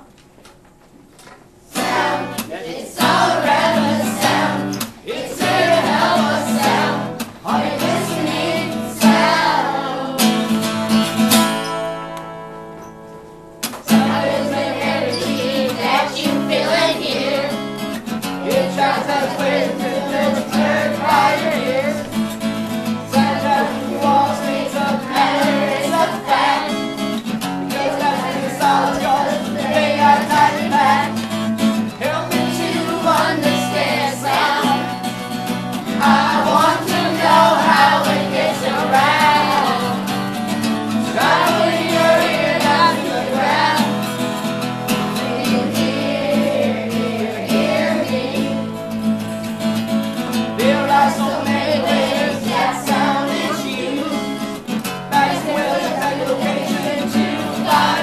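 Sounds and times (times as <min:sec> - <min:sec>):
song with singing: 0:01.7 - 0:11.2, 0:13.9 - 0:49.0, 0:50.3 - 0:58.0.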